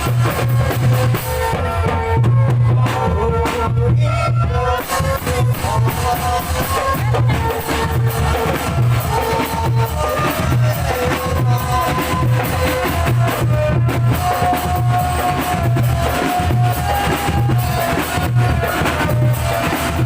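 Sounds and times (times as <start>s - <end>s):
music with drum beat: 0.0s - 20.0s.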